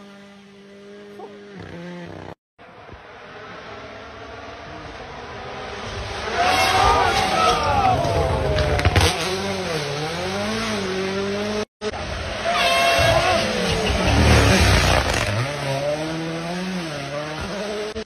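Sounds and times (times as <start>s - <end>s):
rally car engines revving: 0.0s - 18.0s.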